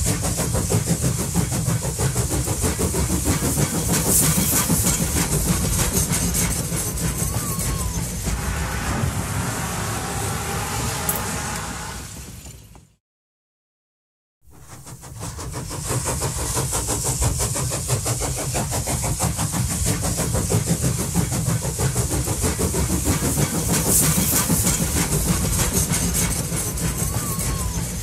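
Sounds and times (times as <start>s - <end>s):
train chugging: 0.0s - 12.8s, 14.5s - 28.0s.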